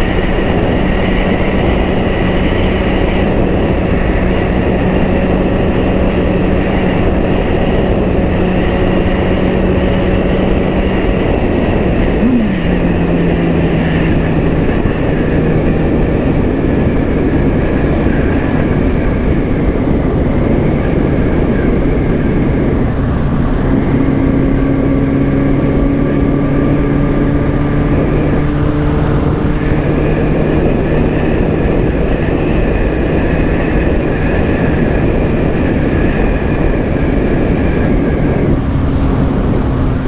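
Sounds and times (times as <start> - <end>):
motorcycle engine cruising: 0.0 - 40.0
wind rush on microphone: 0.0 - 40.0.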